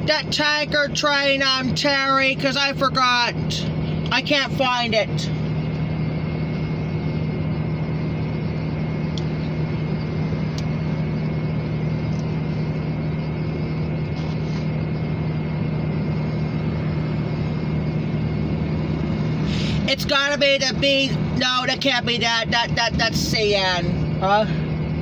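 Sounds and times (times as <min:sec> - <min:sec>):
car idling hum: 0:00.0 - 0:25.0.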